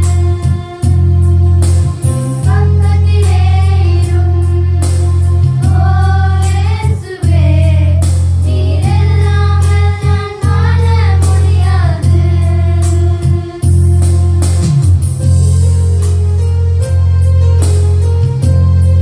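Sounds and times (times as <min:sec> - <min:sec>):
deep bass accompaniment: 0:00.0 - 0:19.0.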